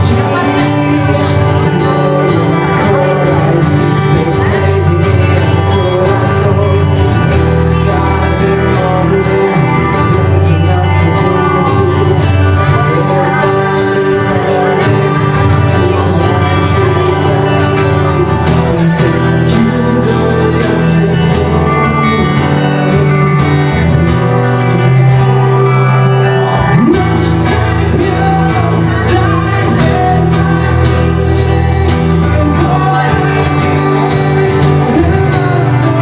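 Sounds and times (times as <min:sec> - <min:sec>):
person singing: 0:00.0 - 0:36.0
strong low notes: 0:00.0 - 0:36.0
strummed acoustic guitar: 0:00.0 - 0:36.0.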